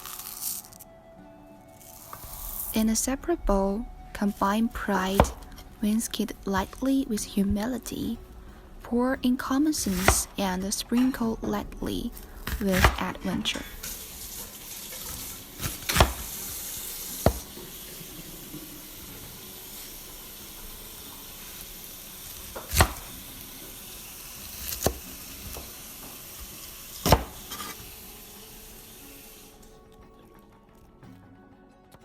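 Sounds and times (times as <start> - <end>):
food sizzling in a pan: 0.0 - 0.9, 1.7 - 3.2, 3.8 - 29.9.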